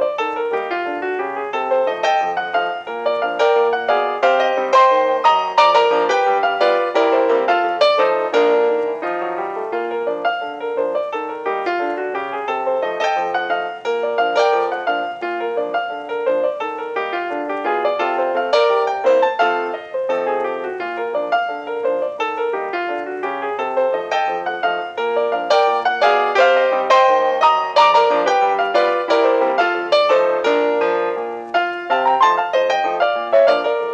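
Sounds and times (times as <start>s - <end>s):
brisk piano music: 0.0s - 33.9s.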